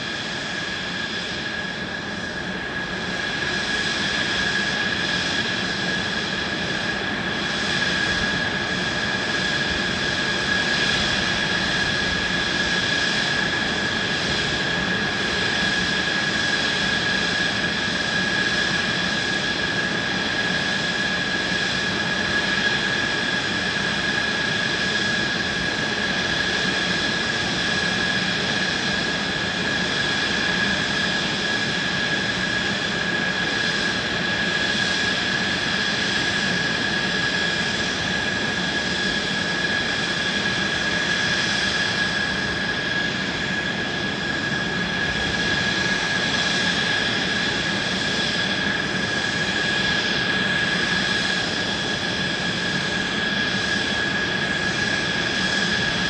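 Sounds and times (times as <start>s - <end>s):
jet engine whine and rush: 0.0s - 56.0s.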